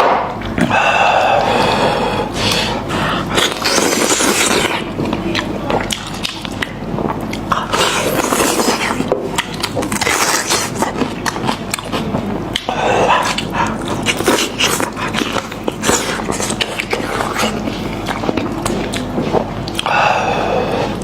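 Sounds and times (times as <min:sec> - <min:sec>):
wet chewing and lip-smacking: 0:02.4 - 0:20.2.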